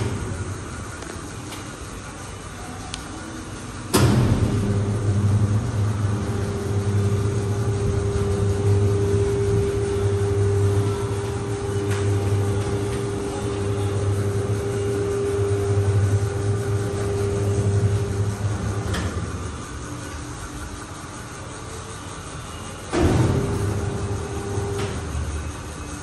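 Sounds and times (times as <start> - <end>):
washing machine rumbling: 0.0 - 26.0
washing machine whine: 0.0 - 26.0.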